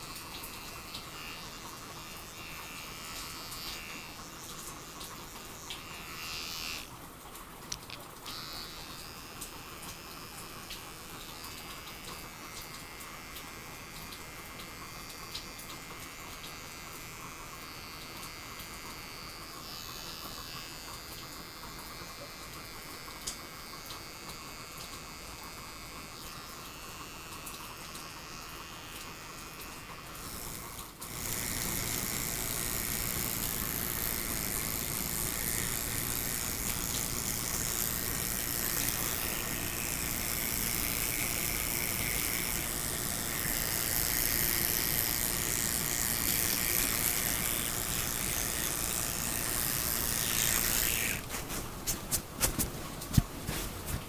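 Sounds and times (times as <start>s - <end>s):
electric hair clipper buzzing: 0.0s - 54.0s.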